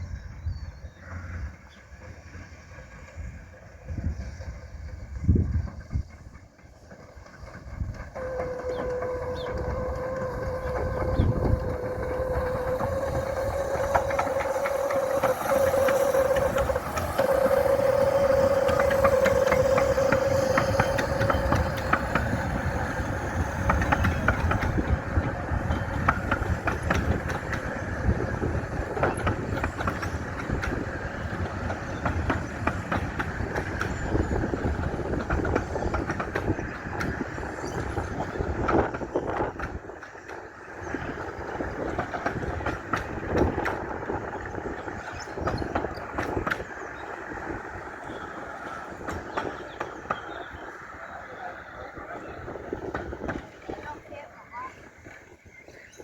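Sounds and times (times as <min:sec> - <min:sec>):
miniature train running on track: 0:00.0 - 0:56.0
wheels clicking on rails: 0:00.0 - 0:56.0.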